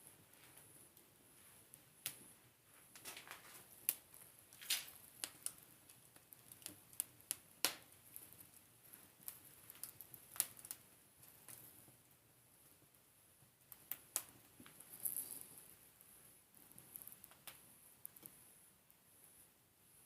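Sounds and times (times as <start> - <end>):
wood fire crackling and popping: 0.0 - 19.0
faint fire hiss: 0.0 - 20.0.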